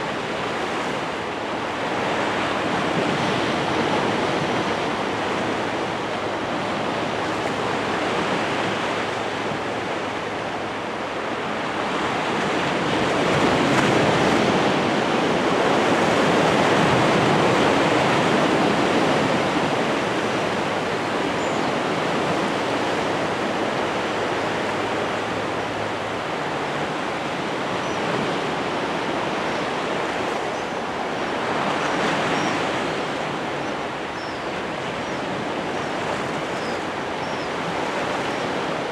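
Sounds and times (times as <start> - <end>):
sea surf rushing: 0.0 - 38.9.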